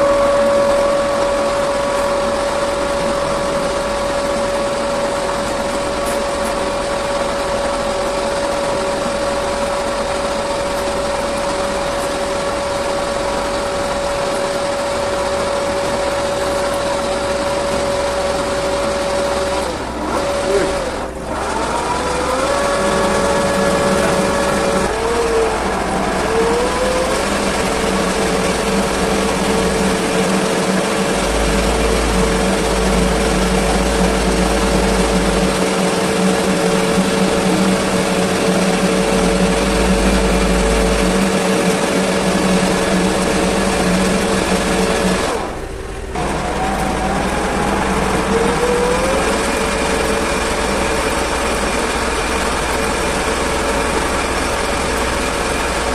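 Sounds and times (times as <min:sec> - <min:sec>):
lathe humming and whining: 0:00.0 - 0:55.9.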